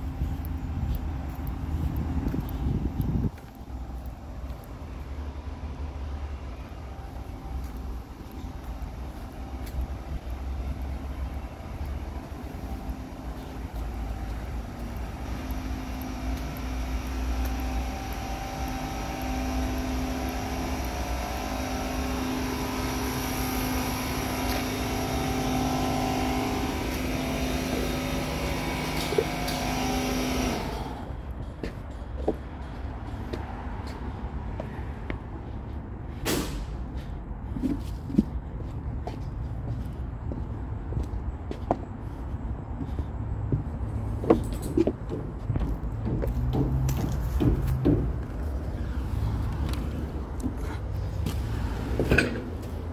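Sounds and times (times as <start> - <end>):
steady engine hum: 0.0 - 52.9.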